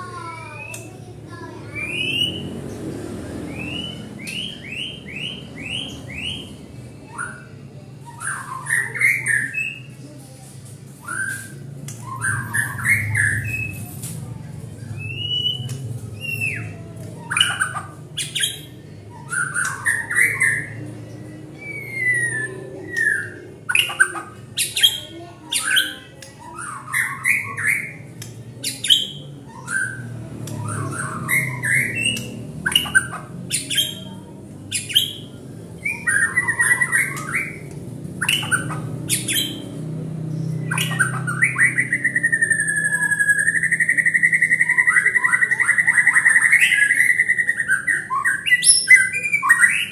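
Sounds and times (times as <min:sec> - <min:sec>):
rapid bird trill: 0:00.0 - 0:10.0, 0:11.0 - 0:13.9, 0:14.8 - 0:49.9
bird singing whistles and chirps: 0:03.5 - 0:09.9, 0:11.0 - 0:13.9, 0:15.0 - 0:39.8, 0:40.4 - 0:49.9.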